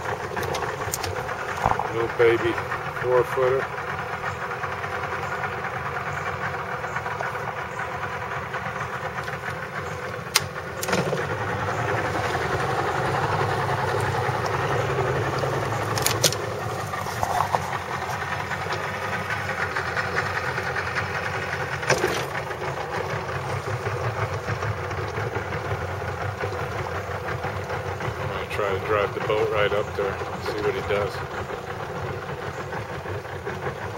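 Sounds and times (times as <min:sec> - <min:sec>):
boat motor running: 0:00.0 - 0:33.9.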